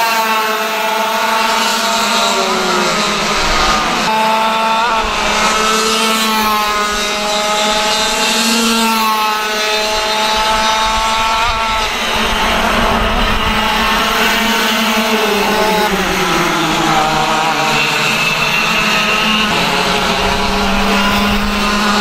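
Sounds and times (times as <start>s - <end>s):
racing kart engines: 0.0s - 22.0s.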